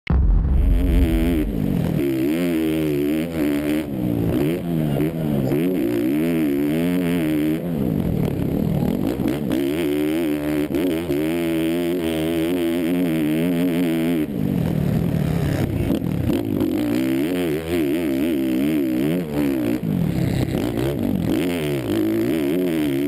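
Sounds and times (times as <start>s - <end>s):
motocross bike engine revving: 0.1s - 23.0s.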